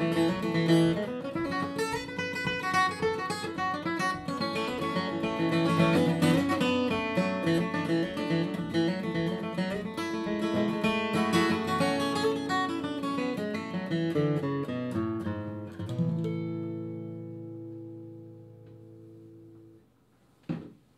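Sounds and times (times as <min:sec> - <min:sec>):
acoustic guitar picking and strumming: 0:00.0 - 0:19.8.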